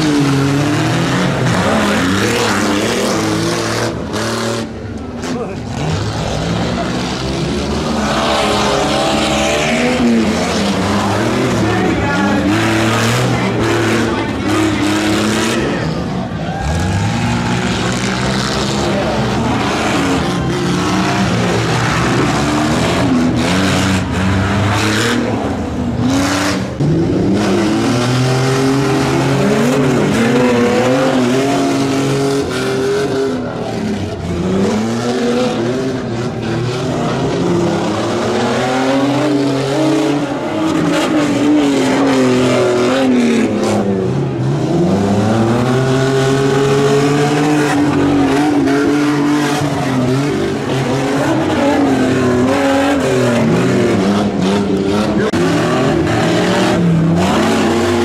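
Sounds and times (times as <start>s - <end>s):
truck engine revving hard: 0.0s - 58.0s.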